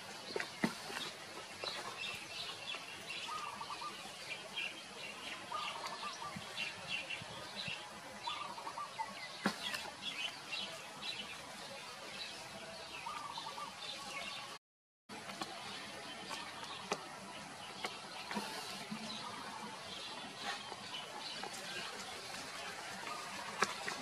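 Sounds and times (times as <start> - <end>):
birds chirping: 0.0 - 14.6, 15.4 - 24.0.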